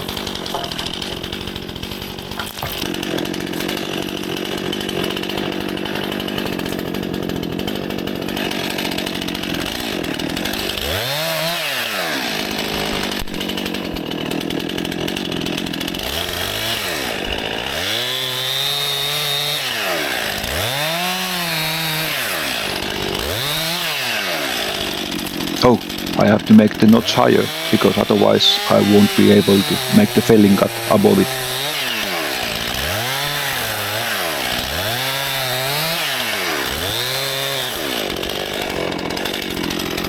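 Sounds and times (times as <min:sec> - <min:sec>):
chainsaw running and revving: 0:00.0 - 0:40.0.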